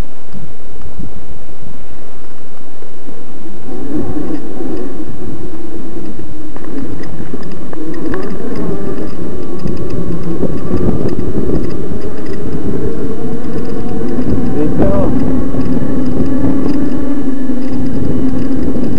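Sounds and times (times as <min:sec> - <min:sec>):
faint wavering motor whine: 0:00.0 - 0:18.9
wind rumble on microphone: 0:00.0 - 0:18.9.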